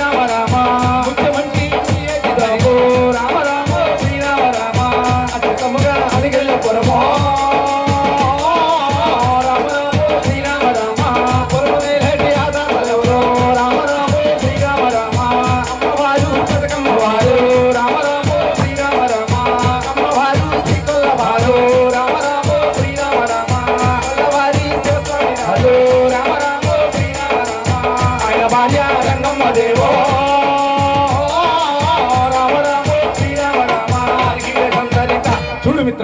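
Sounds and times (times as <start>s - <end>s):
hand-held rattle percussion: 0.0s - 35.7s
person singing: 0.0s - 36.0s
steady drum beat: 0.0s - 36.0s.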